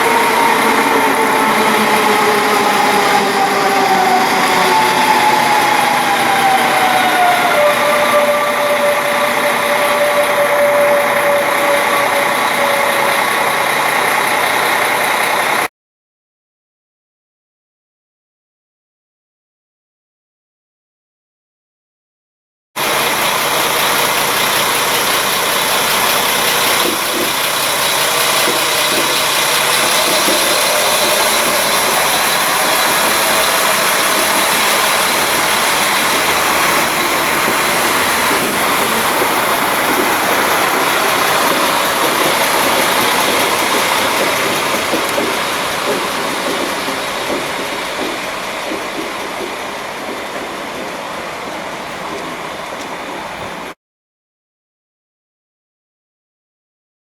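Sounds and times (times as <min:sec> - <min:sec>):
train running: 0:00.0 - 0:15.7, 0:22.8 - 0:53.8.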